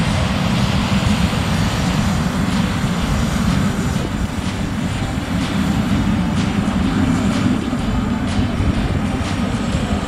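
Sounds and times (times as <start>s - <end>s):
jet engines at taxi power: 0.0s - 10.0s.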